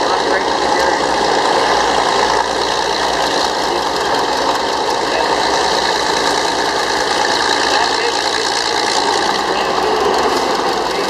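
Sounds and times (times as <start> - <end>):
diesel engine running under load: 0.0 - 11.0.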